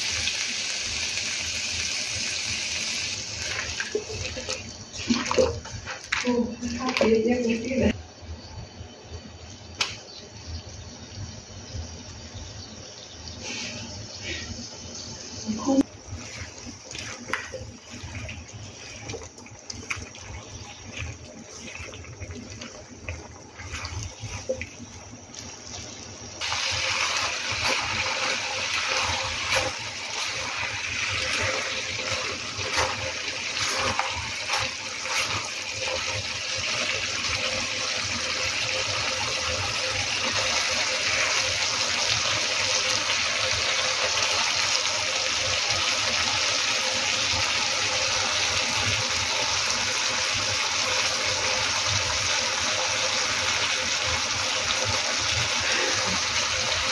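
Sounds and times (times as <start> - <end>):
food sizzling in pan: 0.0 - 56.9.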